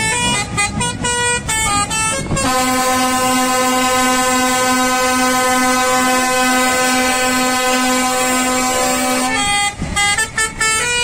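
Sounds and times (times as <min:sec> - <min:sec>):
air horn chord: 0:00.0 - 0:11.0.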